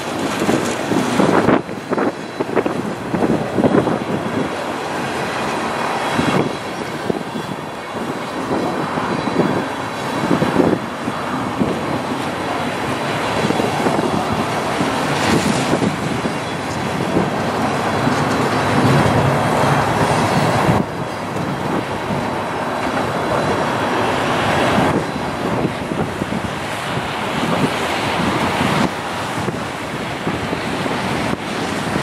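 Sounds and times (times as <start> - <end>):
train wheels on rails: 0.0 - 25.7.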